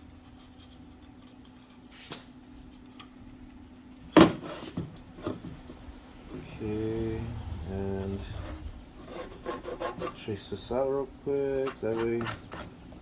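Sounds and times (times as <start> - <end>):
steady low hum: 2.3 - 13.0.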